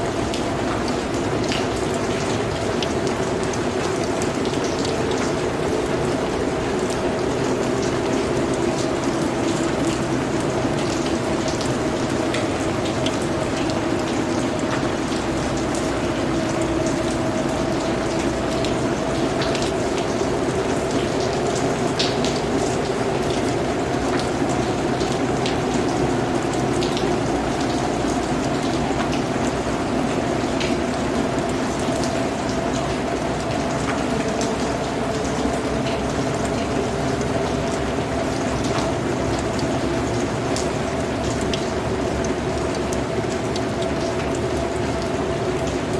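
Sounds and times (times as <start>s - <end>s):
raindrops ticking: 0.0s - 45.9s
steady rain hiss: 0.0s - 45.9s.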